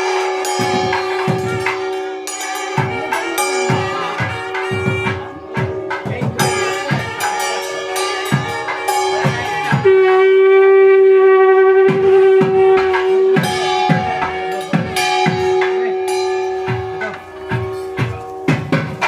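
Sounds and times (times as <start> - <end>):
drum beats: 0.0 - 19.0
loud reed wind instrument: 0.0 - 19.0.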